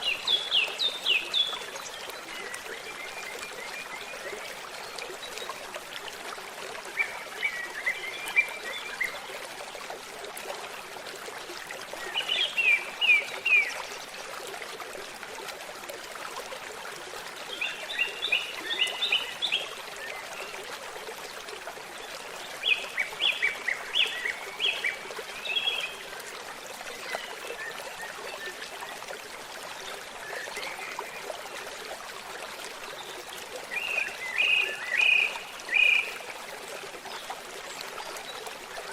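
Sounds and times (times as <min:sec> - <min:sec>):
babbling stream: 0:00.0 - 0:38.9.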